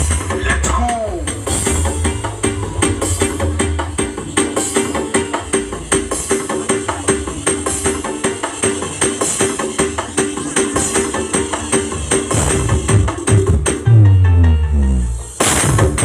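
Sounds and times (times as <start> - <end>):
loud music with bass beat: 0.0 - 16.0.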